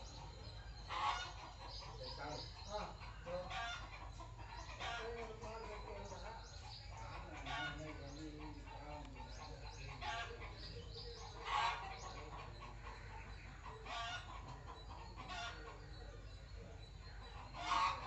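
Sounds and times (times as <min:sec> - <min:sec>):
bird calls: 0:00.0 - 0:18.0.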